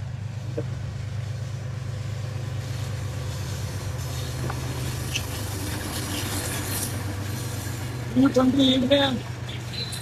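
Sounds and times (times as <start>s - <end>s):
passenger train rumbling past: 0.0s - 10.0s.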